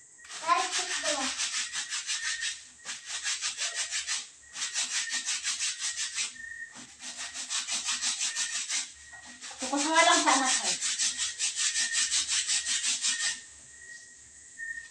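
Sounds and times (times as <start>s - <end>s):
wet clothes scrubbed by hand: 0.3s - 13.5s.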